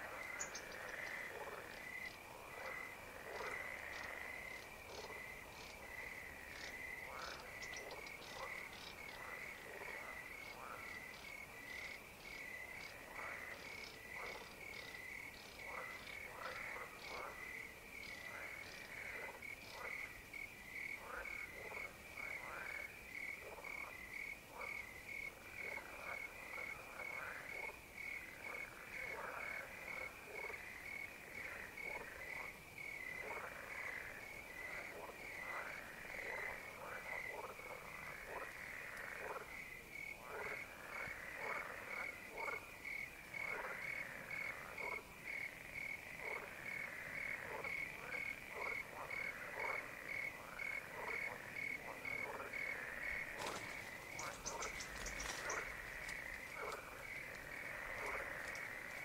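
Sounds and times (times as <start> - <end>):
crickets chirping: 0.0 - 59.0
frogs croaking: 0.0 - 59.0.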